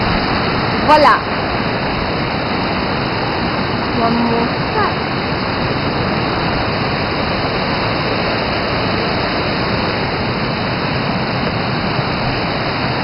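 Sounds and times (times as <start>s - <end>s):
water falling over rocks: 0.0s - 13.0s.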